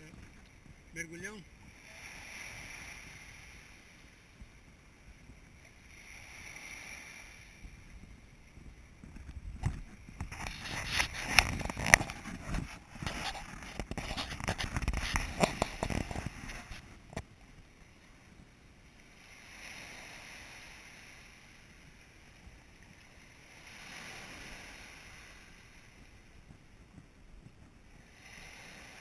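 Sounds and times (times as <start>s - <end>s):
crackling splashes: 0.0s - 29.0s
small waves washing ashore: 0.0s - 29.0s.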